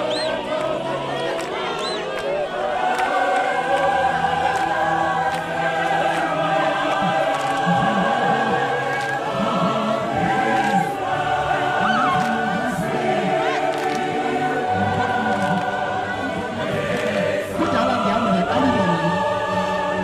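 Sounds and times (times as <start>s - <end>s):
group singing in harmony: 0.0s - 20.0s.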